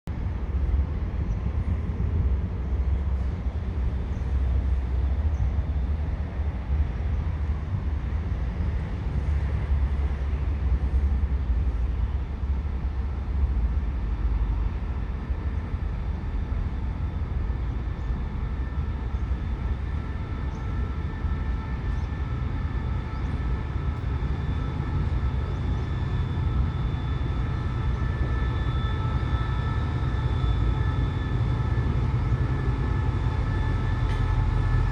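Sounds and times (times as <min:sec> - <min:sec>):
locomotive idling rumble: 0:00.2 - 0:34.9.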